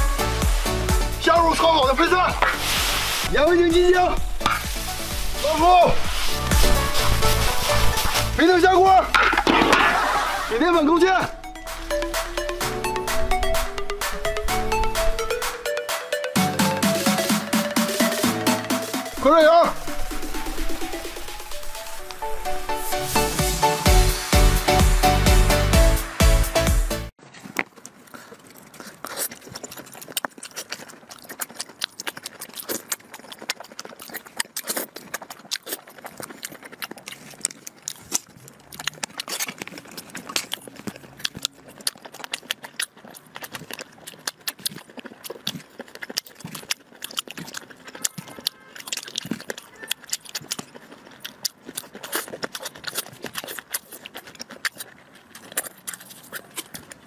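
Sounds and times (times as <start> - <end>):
person chewing food: 4.0 - 8.4, 11.3 - 19.2, 19.8 - 25.4, 27.1 - 57.0.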